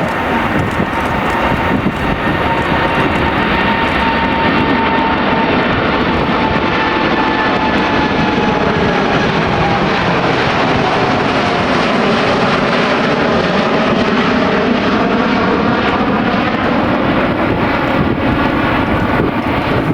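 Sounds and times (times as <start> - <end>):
jet engines running: 0.0 - 19.9.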